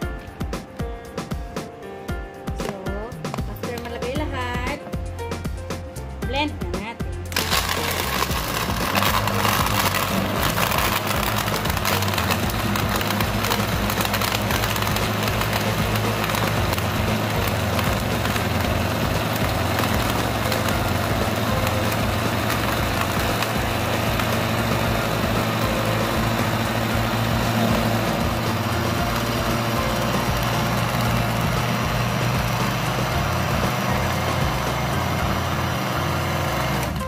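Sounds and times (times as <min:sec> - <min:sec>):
blender motor whirring: 0:07.3 - 0:37.0.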